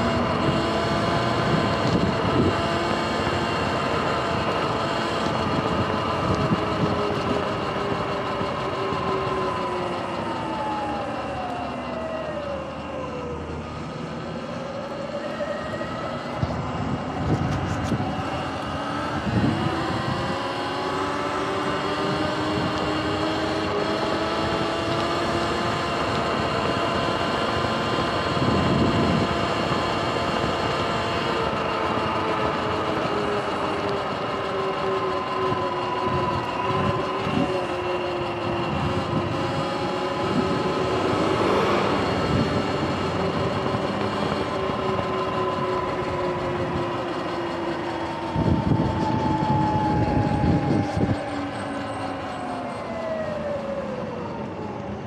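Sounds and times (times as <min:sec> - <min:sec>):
electric motor whining: 0:00.0 - 0:12.4, 0:14.2 - 0:53.7.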